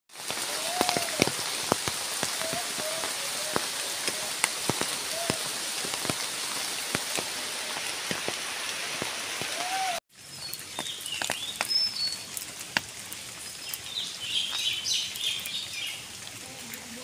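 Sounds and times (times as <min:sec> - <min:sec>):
rain falling on foliage: 0:00.1 - 0:17.0.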